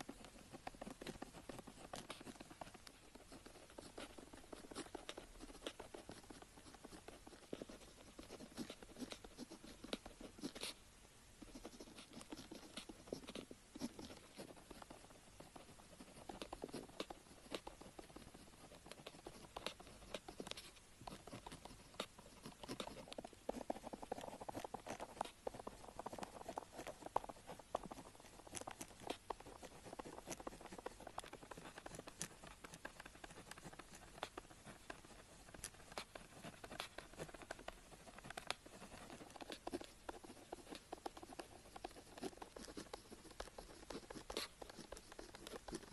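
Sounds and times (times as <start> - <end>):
pen scratching on paper: 0.0 - 10.8, 11.4 - 45.9.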